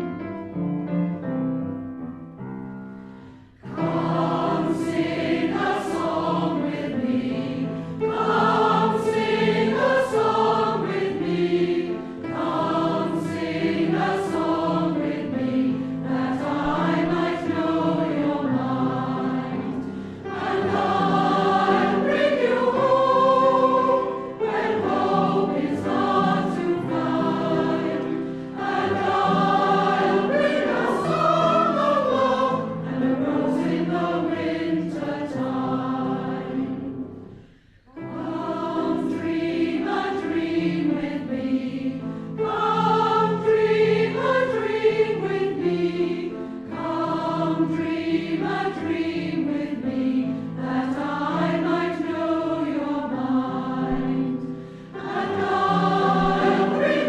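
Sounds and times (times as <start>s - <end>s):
choir singing a hymn: 3.0s - 57.0s.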